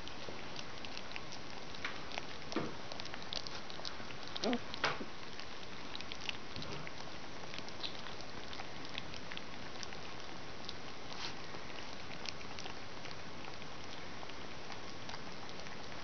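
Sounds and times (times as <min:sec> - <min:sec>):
background hiss: 0:00.0 - 0:16.0
puppies smacking and lapping: 0:00.0 - 0:16.0.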